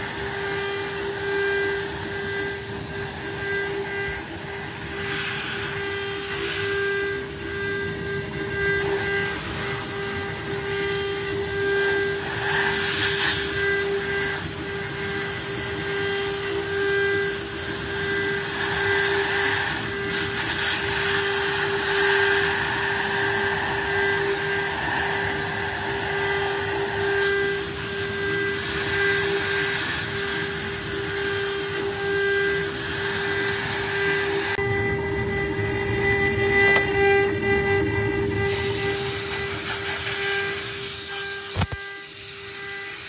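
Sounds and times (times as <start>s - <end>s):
cutter hissing through wood: 0.0s - 43.0s
router spindle high whine: 0.0s - 43.0s.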